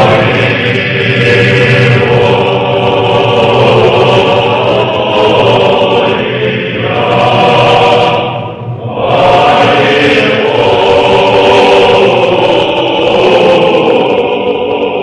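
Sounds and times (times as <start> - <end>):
choir chanting long held notes: 0.0 - 15.0.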